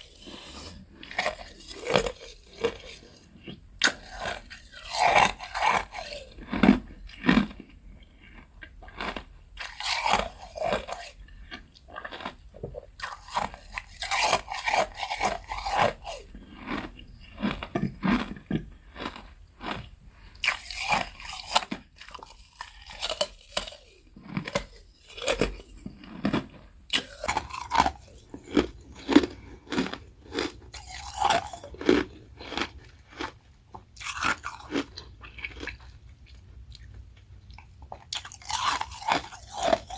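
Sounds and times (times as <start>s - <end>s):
ice crunching and chewing: 0.0s - 39.9s.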